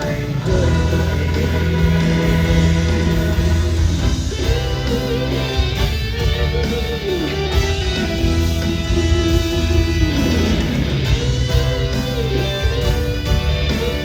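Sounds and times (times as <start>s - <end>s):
bass guitar: 0.0s - 14.0s
drums: 0.0s - 14.0s
lead guitar melody: 0.0s - 14.0s
strummed guitar: 0.0s - 14.0s.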